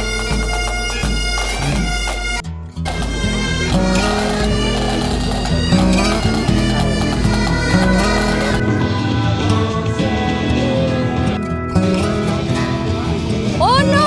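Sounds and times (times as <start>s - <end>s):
instrumental pop music: 0.0s - 14.0s.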